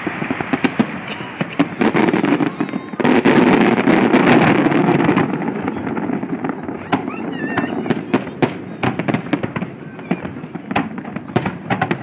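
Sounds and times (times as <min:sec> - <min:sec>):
firework whistle warbling: 0:00.0 - 0:11.5
fireworks crackling and banging: 0:00.0 - 0:12.0.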